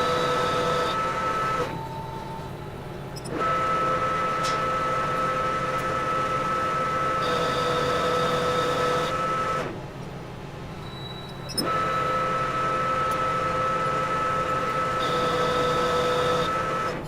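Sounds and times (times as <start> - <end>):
metal lathe gear whine: 0.0 - 9.8, 10.7 - 17.0.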